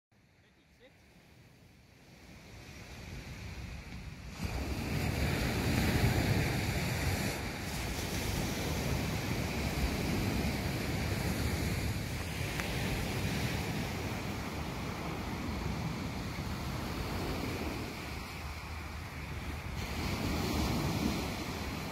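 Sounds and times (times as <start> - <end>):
small waves breaking on shore: 0.2 - 21.9
wind rumbling on microphone: 1.0 - 21.9.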